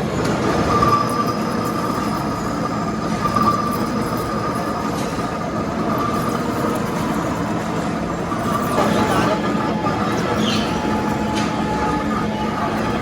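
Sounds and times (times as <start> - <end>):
metal lathe running: 0.0 - 13.0
thin mechanical whine: 0.0 - 13.0.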